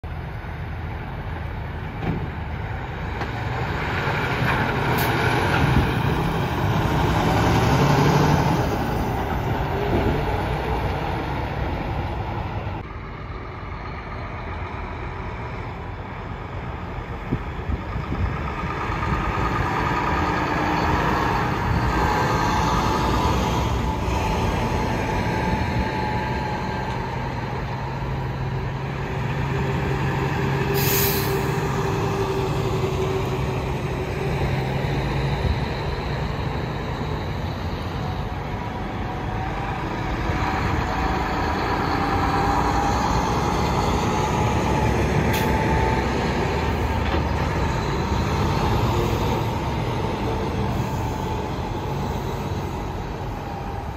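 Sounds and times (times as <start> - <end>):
trucks and cars passing: 0.0 - 53.9.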